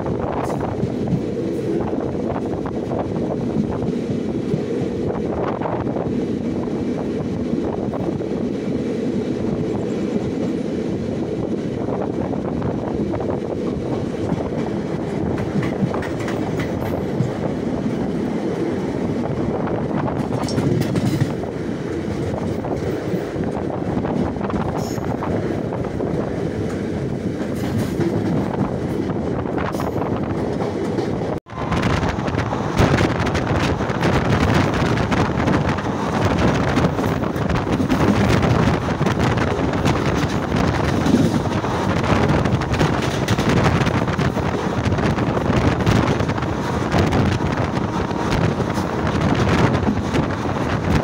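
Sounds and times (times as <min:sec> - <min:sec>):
clickety-clack over rail joints: 0:00.0 - 0:51.0
train wheels rumbling on rail: 0:00.0 - 0:51.0.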